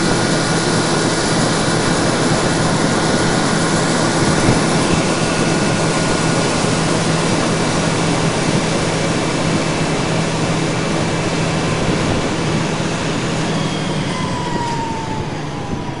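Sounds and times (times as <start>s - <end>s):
combine harvester running: 0.0s - 16.0s
falling whine: 0.0s - 16.0s.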